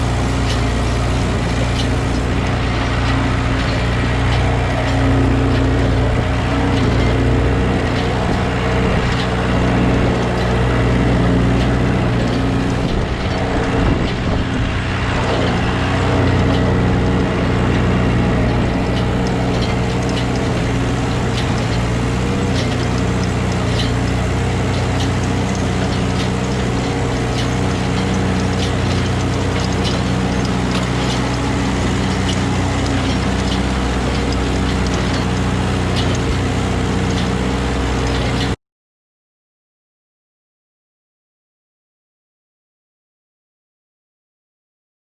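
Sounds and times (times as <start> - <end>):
hay baler clattering: 0.0 - 38.6
tractor engine running: 0.0 - 38.6.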